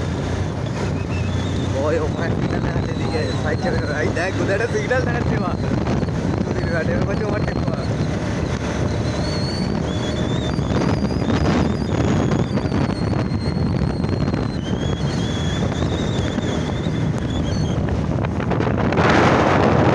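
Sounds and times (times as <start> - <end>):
motorcycle engine running: 0.0 - 19.9
wind buffeting microphone: 0.0 - 19.9.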